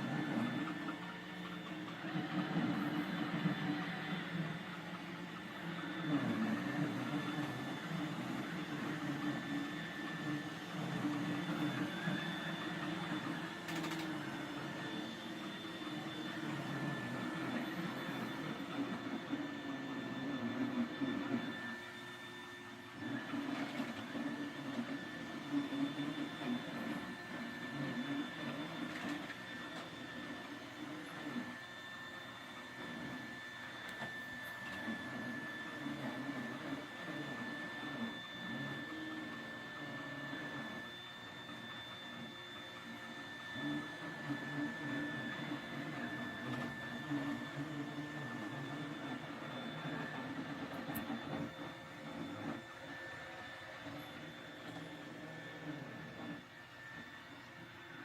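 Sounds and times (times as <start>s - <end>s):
robot vacuum motor hum: 0.0s - 58.0s
vacuum brush noise: 0.0s - 58.0s.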